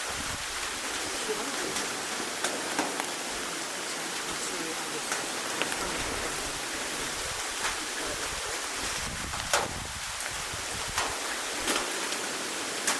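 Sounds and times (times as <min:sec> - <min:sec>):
sharp raindrops striking close: 0:00.0 - 0:12.9
steady rain falling: 0:00.0 - 0:12.9.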